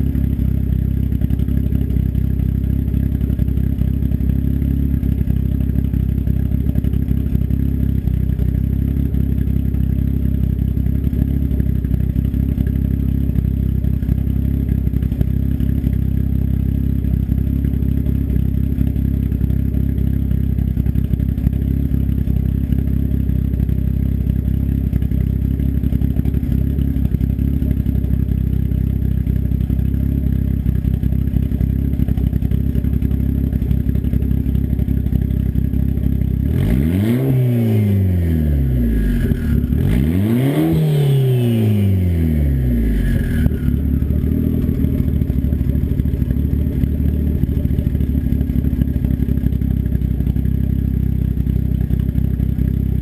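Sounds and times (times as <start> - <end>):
turbocharged engine idling and revving: 0.0 - 53.0.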